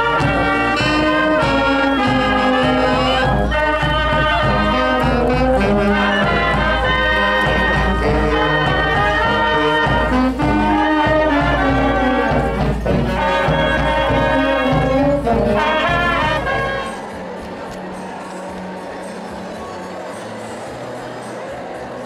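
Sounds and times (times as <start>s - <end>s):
brass band playing a march: 0.0s - 19.0s.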